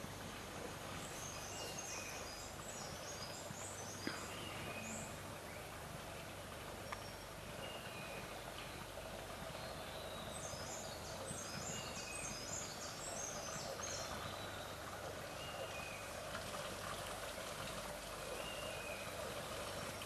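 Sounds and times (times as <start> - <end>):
rushing water hiss: 0.0 - 20.0
small birds chirping: 0.0 - 20.0.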